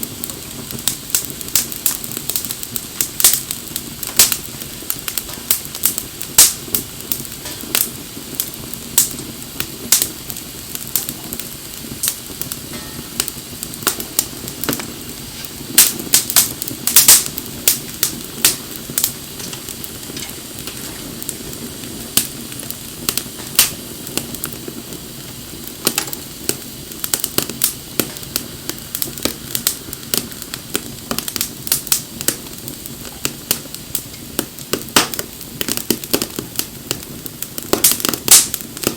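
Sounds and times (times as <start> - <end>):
bonfire crackling and popping: 0.0 - 38.9
fire low rush: 0.0 - 38.9.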